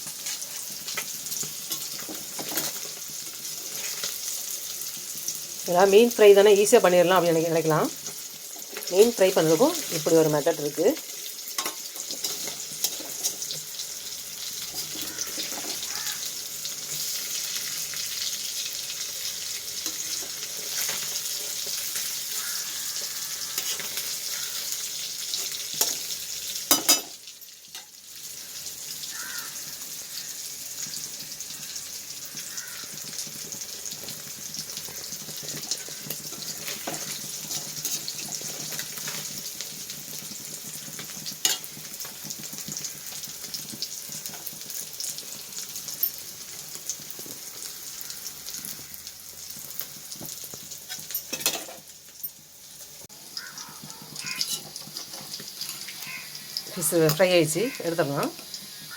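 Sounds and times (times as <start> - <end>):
fish sizzling in oil: 0.0 - 58.9.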